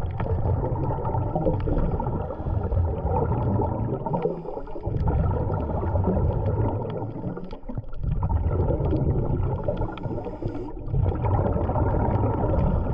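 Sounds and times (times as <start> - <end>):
muffled water gurgling: 0.0 - 12.9.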